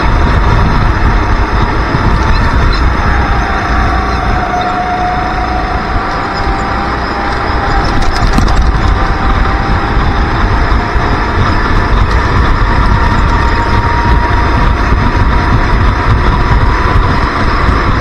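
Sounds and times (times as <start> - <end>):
kart engine running hard: 0.0 - 18.0
wind rumbling on microphone: 0.0 - 18.0.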